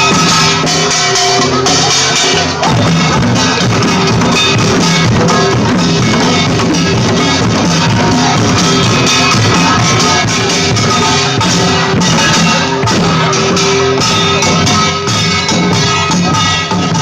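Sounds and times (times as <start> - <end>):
loud live band music: 0.0 - 17.0.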